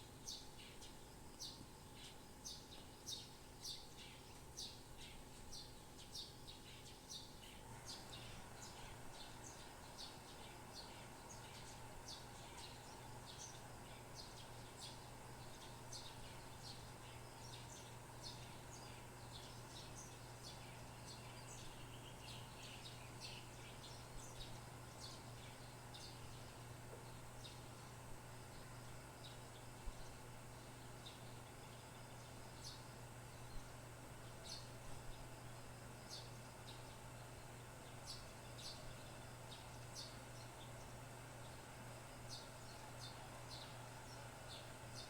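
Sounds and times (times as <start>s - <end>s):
steady low hum: 0.0s - 45.0s
birds chirping: 0.1s - 45.0s.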